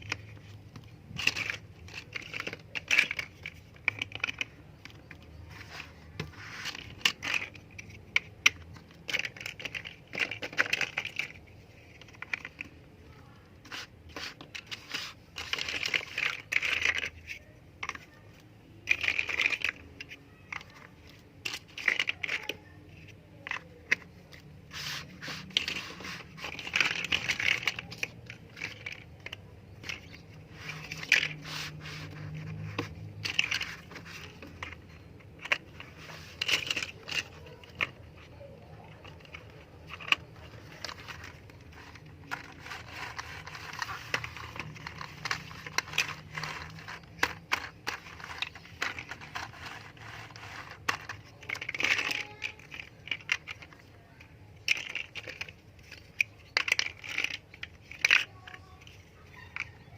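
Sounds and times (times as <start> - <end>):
plastic bricks clicking: 0.0 - 59.9
plastic pieces scraping: 0.0 - 59.9.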